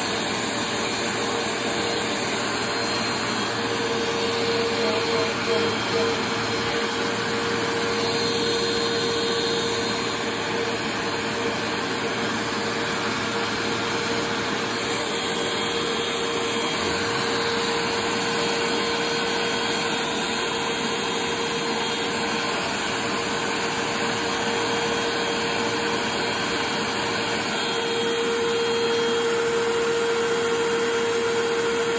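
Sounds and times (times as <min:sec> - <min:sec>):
vacuum cleaner whining: 0:00.0 - 0:31.9.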